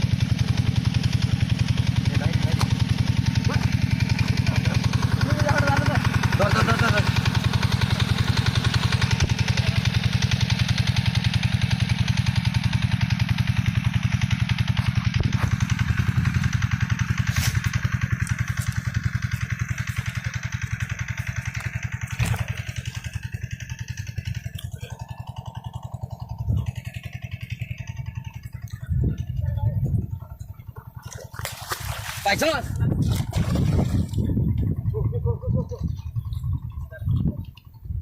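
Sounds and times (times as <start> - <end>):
small engine putter: 0.0 - 38.0.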